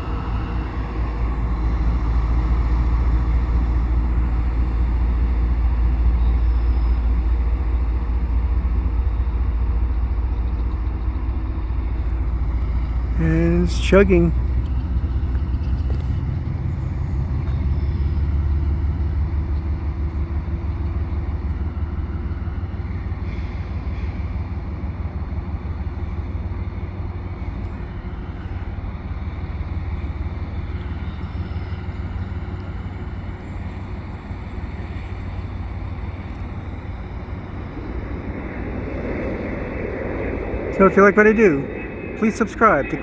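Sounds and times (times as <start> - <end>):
locomotive engine chugging: 0.0 - 43.0.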